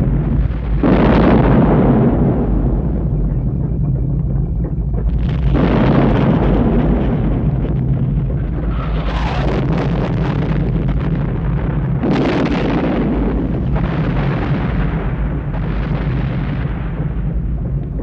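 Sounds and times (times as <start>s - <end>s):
continuous deep rumble: 0.0s - 18.0s.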